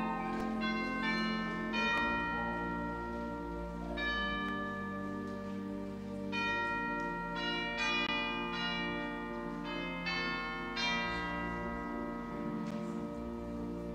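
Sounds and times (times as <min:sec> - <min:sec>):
bell tones ringing: 0:00.0 - 0:12.7
sustained low chords: 0:00.0 - 0:13.9.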